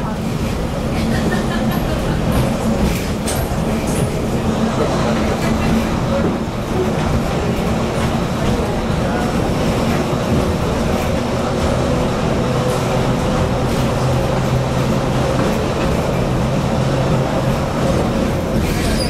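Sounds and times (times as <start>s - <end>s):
diesel engine hum: 0.0s - 19.0s
train rumbling along track: 0.0s - 19.0s.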